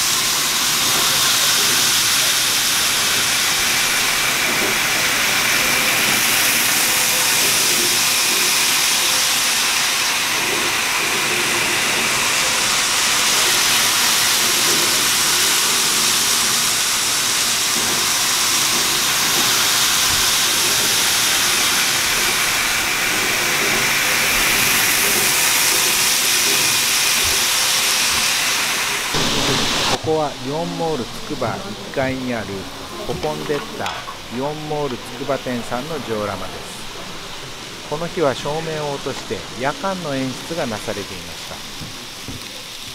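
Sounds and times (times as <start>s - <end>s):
hissing train running noise: 0.0s - 42.9s.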